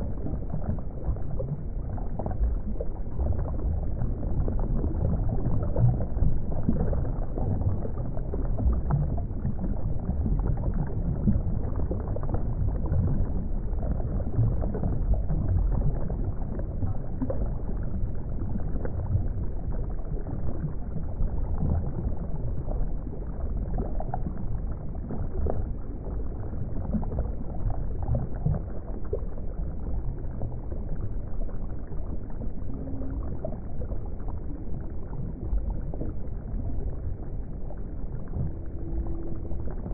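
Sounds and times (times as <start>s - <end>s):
faint bubbling crackles: 0.0s - 39.9s
underwater rumble of moving water: 0.0s - 39.9s.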